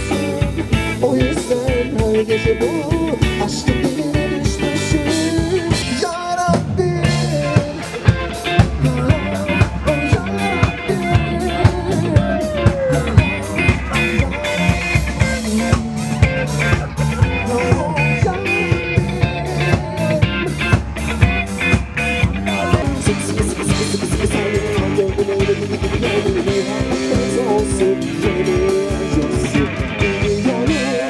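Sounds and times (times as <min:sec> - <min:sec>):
drum kit beat: 0:00.0 - 0:31.0
electric guitar: 0:00.0 - 0:31.0.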